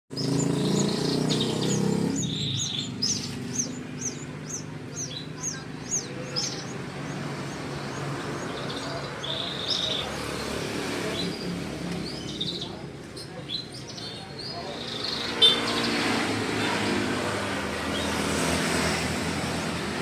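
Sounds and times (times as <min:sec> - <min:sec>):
chicks cheeping: 0:00.1 - 0:16.8.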